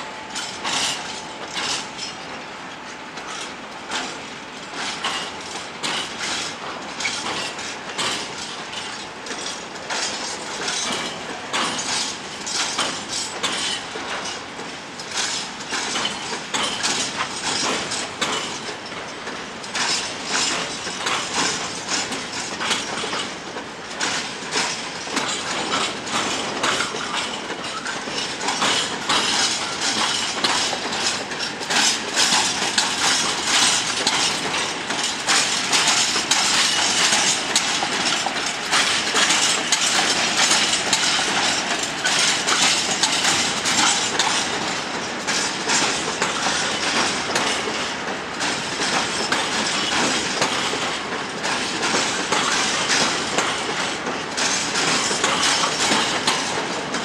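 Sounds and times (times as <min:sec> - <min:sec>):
freight train rumble: 0:00.0 - 0:57.0
train wheels clattering over rail joints: 0:00.0 - 0:57.0.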